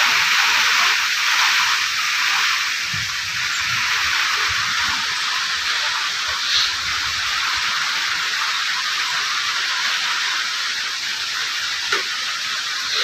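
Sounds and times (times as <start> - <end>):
light rain on trees: 0.0 - 13.0.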